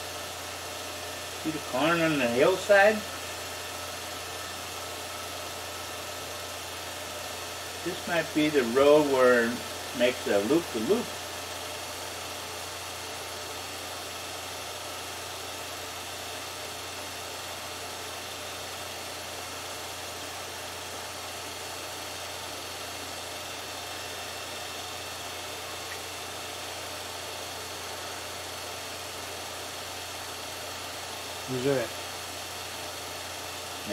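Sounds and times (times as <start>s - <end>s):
film projector running: 0.0s - 33.9s.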